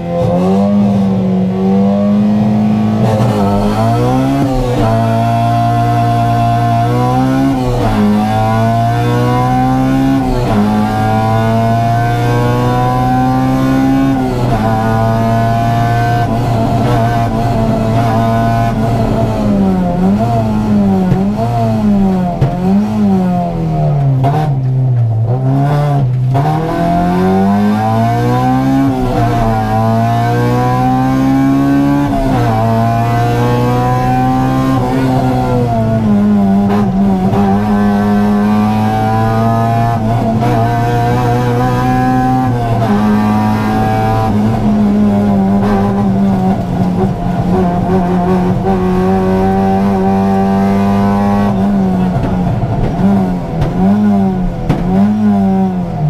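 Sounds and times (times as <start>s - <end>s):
car engine revving at full throttle: 0.0s - 56.0s.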